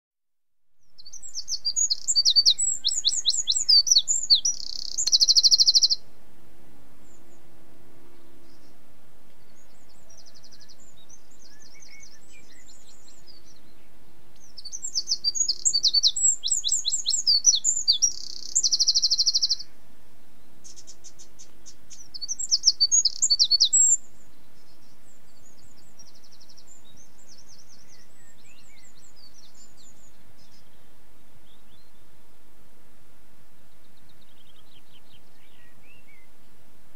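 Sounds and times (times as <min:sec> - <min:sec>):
songbird chirping and trilling: 0:00.8 - 0:06.1, 0:07.0 - 0:32.2, 0:33.7 - 0:36.6.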